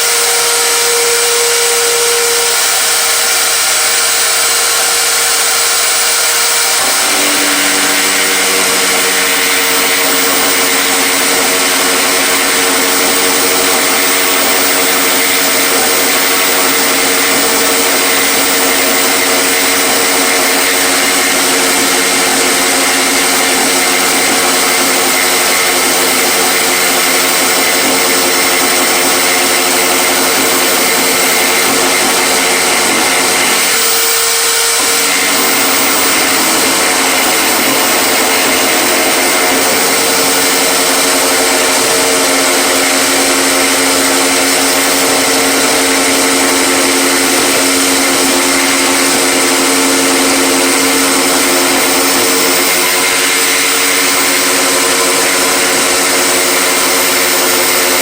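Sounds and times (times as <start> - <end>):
electric power tool motor running: 0.0 - 58.0.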